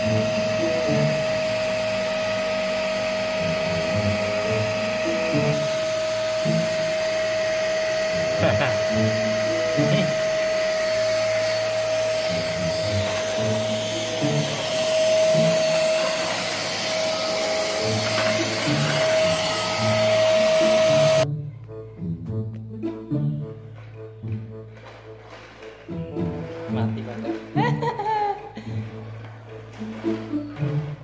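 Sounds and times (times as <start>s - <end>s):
vacuum cleaner running: 0.0s - 21.3s, 24.7s - 31.0s.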